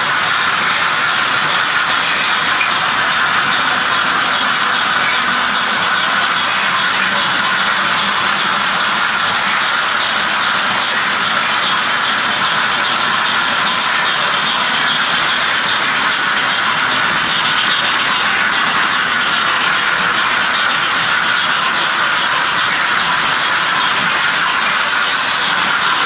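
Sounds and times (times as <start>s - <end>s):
model train running on track: 0.0s - 26.0s.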